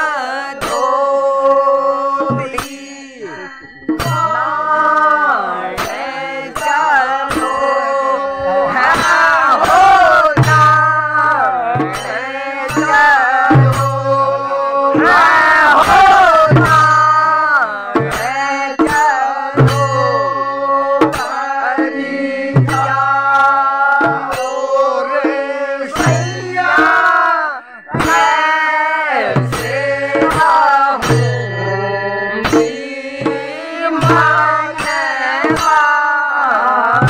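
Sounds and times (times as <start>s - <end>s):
group of men singing: 0.0s - 37.0s
sharp cymbal clashes: 0.5s - 23.3s, 24.0s - 36.0s.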